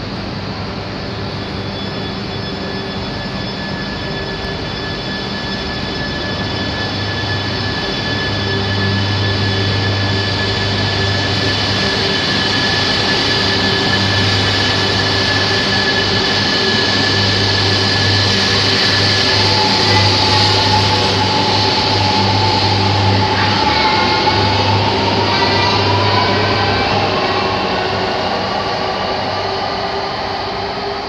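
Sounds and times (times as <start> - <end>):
train humming and whining: 0.0 - 31.0.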